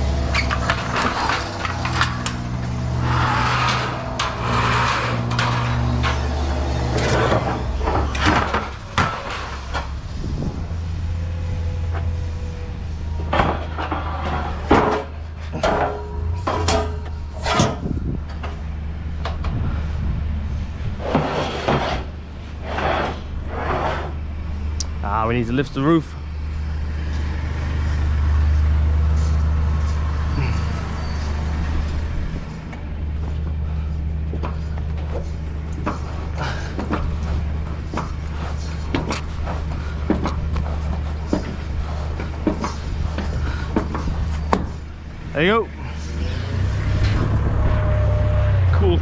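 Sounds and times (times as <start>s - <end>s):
truck engine idling: 0.0s - 21.1s, 24.2s - 49.0s
clunks and rattling: 0.0s - 24.9s, 26.2s - 49.0s.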